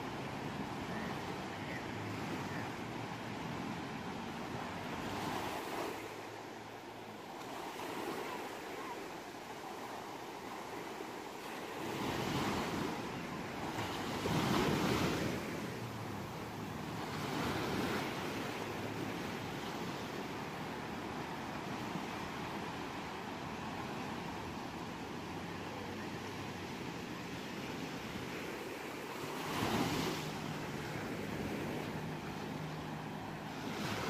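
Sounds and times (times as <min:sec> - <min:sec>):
ocean waves breaking: 0:00.0 - 0:34.0.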